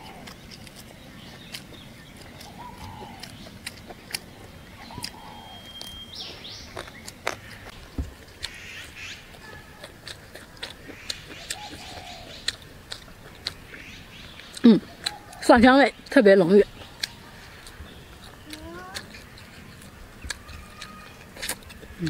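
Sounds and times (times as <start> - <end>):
birds chirping: 0.0 - 22.0
chewing and gnawing on meat: 0.0 - 22.0.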